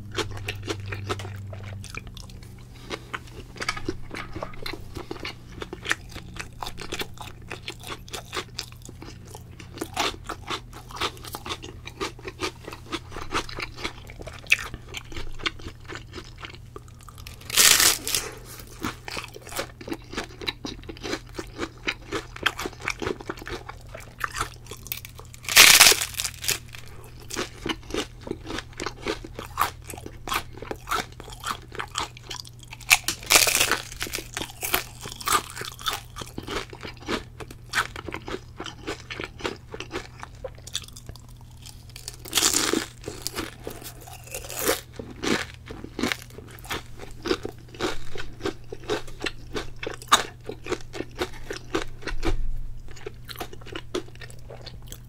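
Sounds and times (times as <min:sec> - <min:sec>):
crackly chewing: 0:00.0 - 0:55.0
crunching bites: 0:00.1 - 0:55.0.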